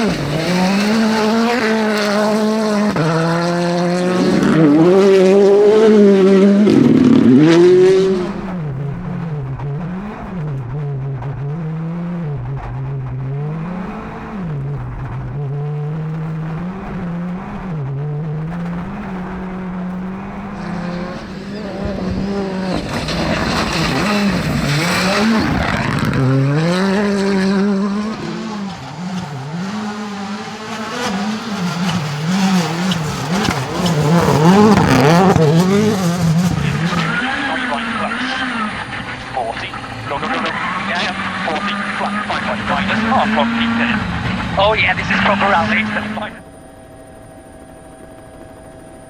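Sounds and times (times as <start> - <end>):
tyres skidding: 0.0 - 46.5
rally car engine revving: 0.0 - 48.5.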